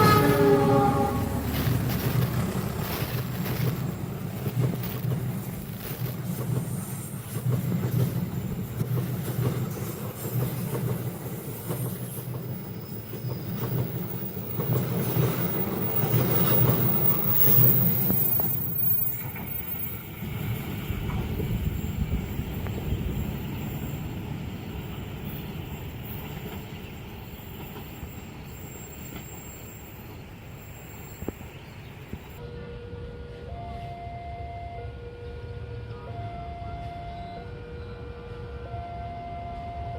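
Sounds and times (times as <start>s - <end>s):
train wheels clattering over rail joints: 0.0s - 32.4s.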